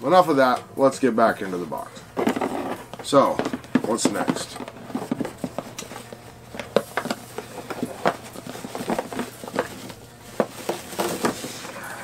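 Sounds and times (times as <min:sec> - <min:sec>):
packaging crinkling and rustling: 0:02.2 - 0:11.9
hands rummaging in cardboard box: 0:02.2 - 0:12.0.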